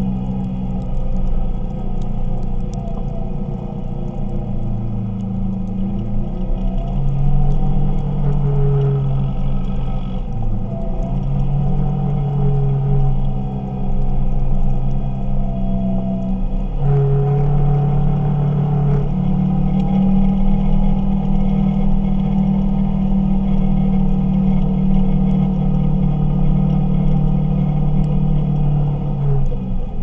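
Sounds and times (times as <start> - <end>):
twin engine running while driving: 0.0 - 30.0.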